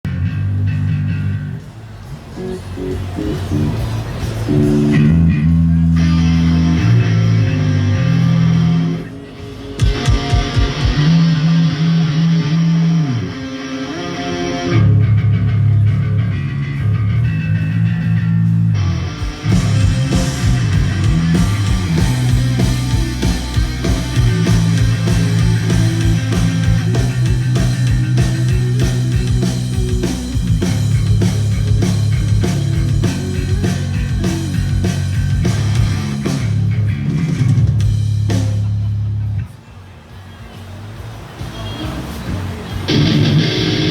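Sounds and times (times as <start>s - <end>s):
drum kit: 0.0s - 39.4s, 40.6s - 43.9s
distorted electric guitar: 0.0s - 39.5s, 42.9s - 43.9s
bass guitar: 0.0s - 39.6s, 42.0s - 43.9s.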